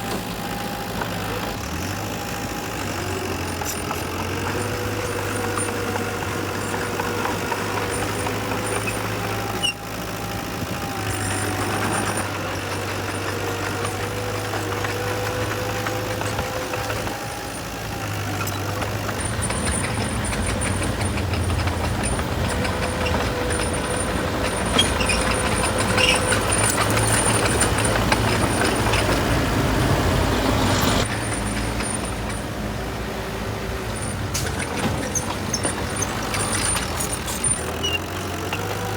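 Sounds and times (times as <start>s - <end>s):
heavy machinery engines running: 0.0s - 38.9s.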